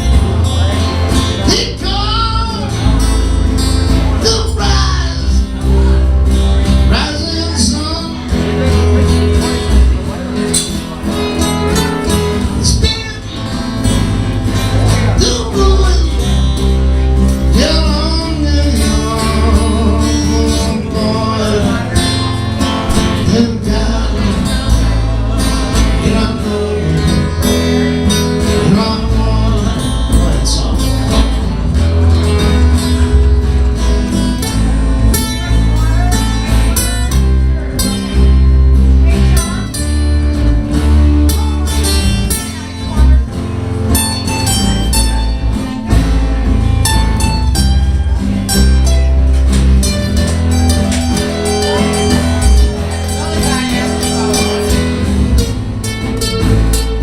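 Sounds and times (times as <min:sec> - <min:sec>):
acoustic guitars strumming chords: 0:00.0 - 0:57.0.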